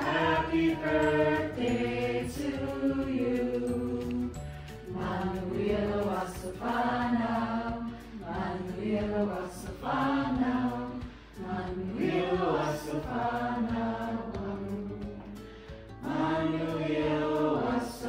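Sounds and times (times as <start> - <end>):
group singing unaccompanied: 0.0 - 15.4, 16.0 - 18.0.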